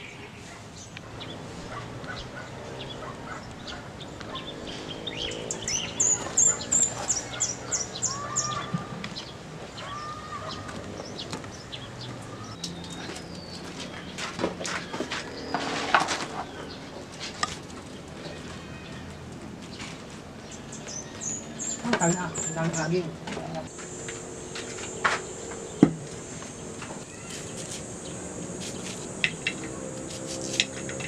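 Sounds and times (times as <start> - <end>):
bird chirping: 0.0 - 17.1, 19.7 - 31.0.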